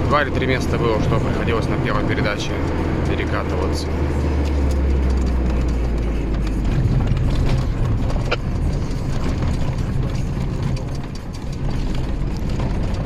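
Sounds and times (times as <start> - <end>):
cab rattling and clicking: 0.0 - 13.0
truck engine running: 0.0 - 13.0.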